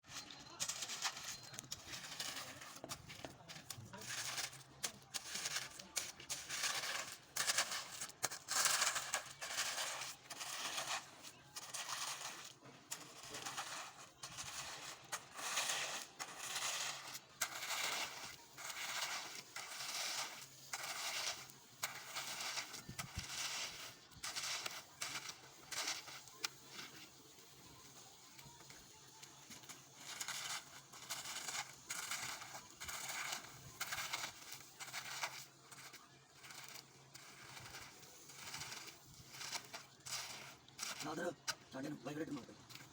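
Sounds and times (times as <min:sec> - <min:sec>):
tools scraping wet concrete: 0:00.0 - 0:42.9.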